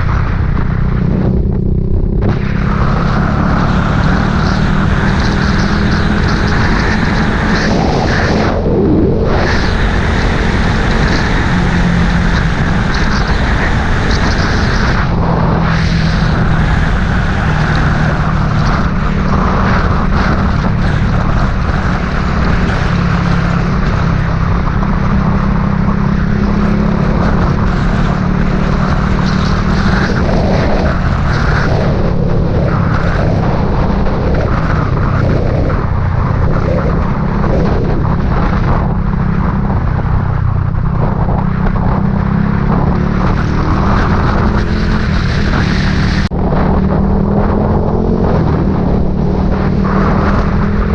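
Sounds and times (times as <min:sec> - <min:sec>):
heavy wind rush: 0:00.0 - 0:50.9
vehicle engine droning: 0:00.0 - 0:50.9.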